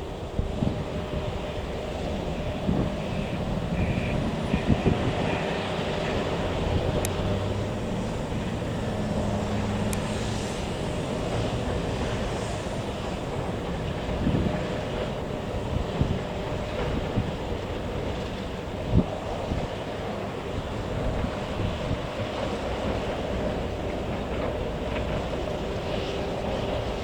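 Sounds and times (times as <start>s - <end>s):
jet engines rumbling: 0.0s - 27.0s
wind buffeting microphone: 0.0s - 27.0s.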